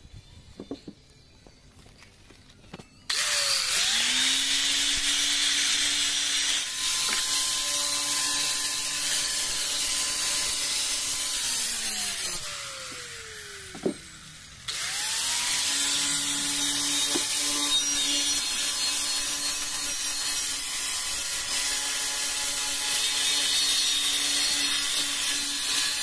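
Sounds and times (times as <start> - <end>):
angle grinder grinding tiles: 3.1 - 26.0.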